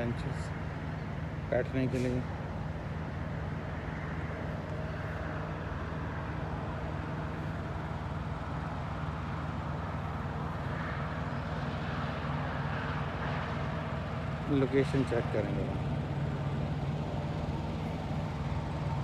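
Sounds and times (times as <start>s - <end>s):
road vehicle rumble with hiss: 0.0s - 19.0s.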